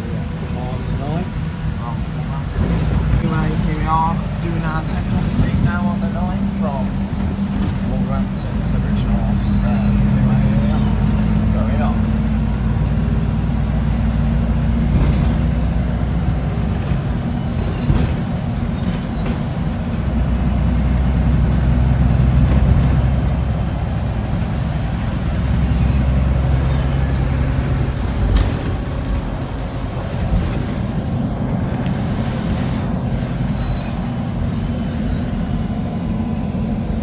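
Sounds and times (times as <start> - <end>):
bus engine droning: 0.0 - 37.0
road noise: 0.0 - 37.0.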